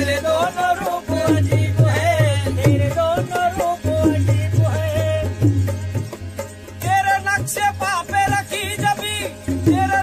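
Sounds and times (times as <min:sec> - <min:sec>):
driving drum rhythm: 0:00.0 - 0:10.0
ornamented vocal melody: 0:00.0 - 0:10.0.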